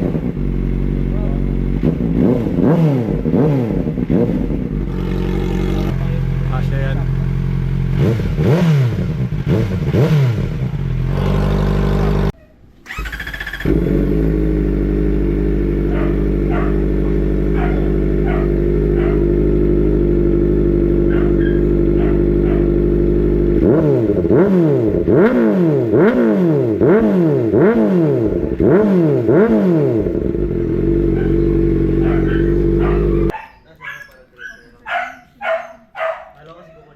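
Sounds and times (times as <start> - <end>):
motorcycle engine idling and revving: 0.0 - 33.5, 34.8 - 36.6.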